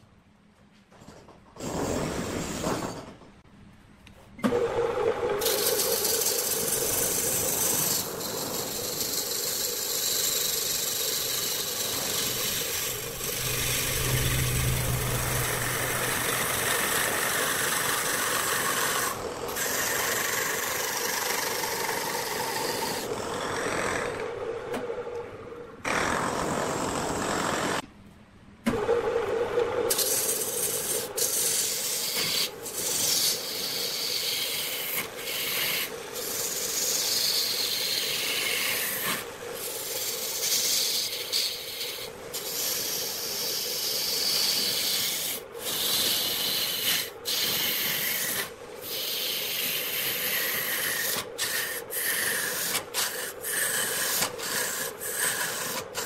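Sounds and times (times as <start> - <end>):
lathe humming: 4.5 - 25.2, 28.8 - 56.0
turning tool scraping wood: 5.4 - 24.3, 29.9 - 56.0.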